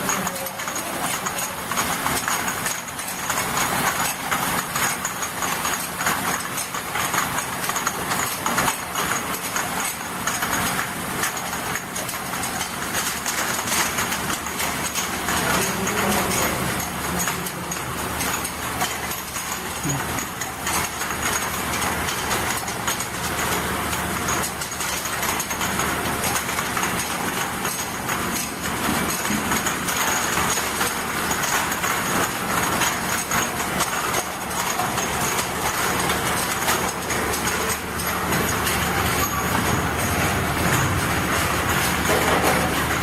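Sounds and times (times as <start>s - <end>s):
clicking and rattling: 0.0s - 43.0s
washing machine hum: 0.0s - 43.0s.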